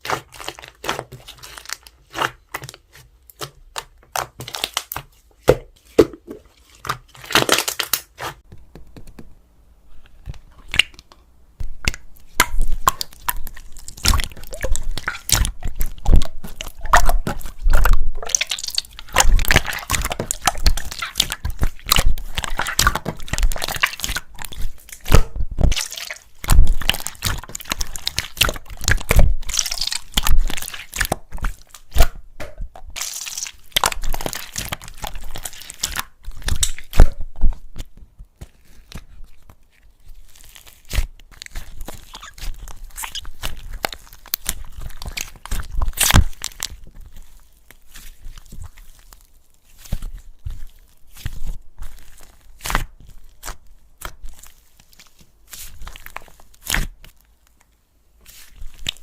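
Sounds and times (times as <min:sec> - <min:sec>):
slime squished by hand: 0:00.0 - 0:08.4, 0:11.6 - 0:39.5, 0:40.1 - 0:57.3, 0:58.2 - 0:59.0.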